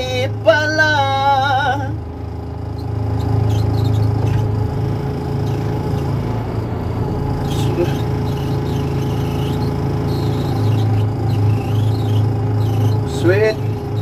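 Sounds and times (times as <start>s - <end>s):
forklift engine humming: 0.0s - 14.0s.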